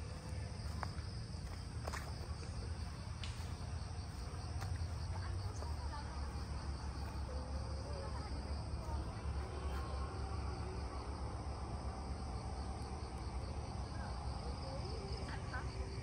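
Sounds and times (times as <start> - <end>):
constant low rumble: 0.0 - 16.0.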